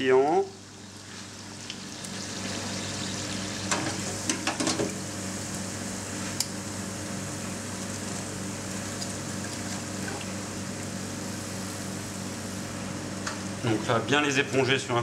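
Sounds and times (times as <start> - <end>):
low even hum: 0.0 - 14.6
hot oil hissing in fryer: 0.4 - 9.4, 10.2 - 13.6.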